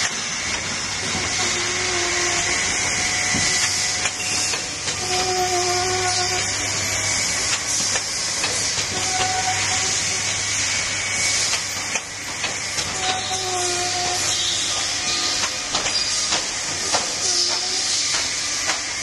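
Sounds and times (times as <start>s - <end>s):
loud hiss of air: 0.0s - 19.0s.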